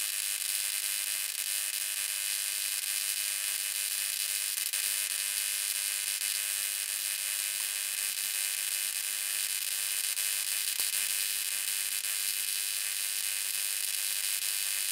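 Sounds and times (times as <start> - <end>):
electric arcs buzzing hiss: 0.0 - 14.9.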